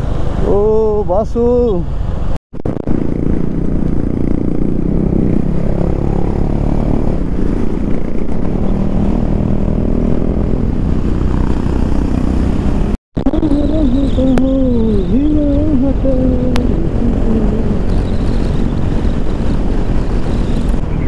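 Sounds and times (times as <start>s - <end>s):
wind rush on microphone: 0.0s - 21.0s
motorcycle engine running: 2.6s - 21.0s.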